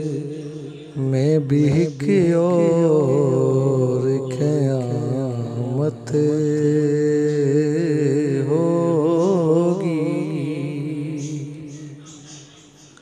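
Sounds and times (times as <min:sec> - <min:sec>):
man singing: 0:00.0 - 0:12.6.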